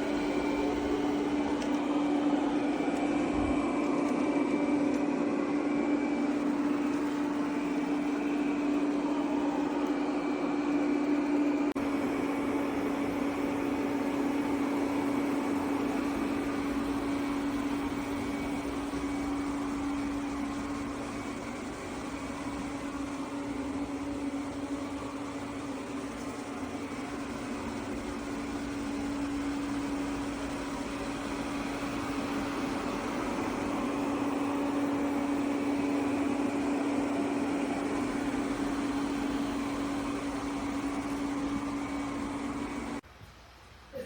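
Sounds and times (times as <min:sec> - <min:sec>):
robot vacuum motor humming: 0:00.0 - 0:43.0.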